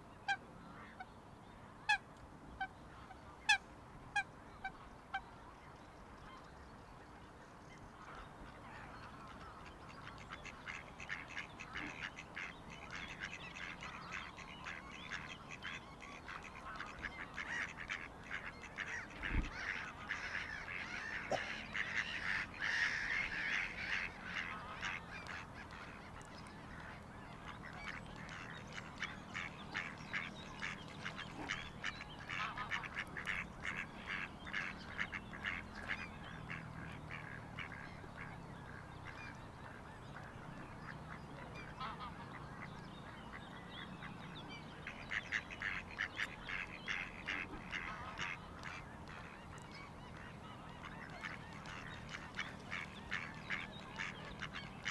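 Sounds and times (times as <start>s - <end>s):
waterfowl honking and quacking: 8.0s - 54.9s.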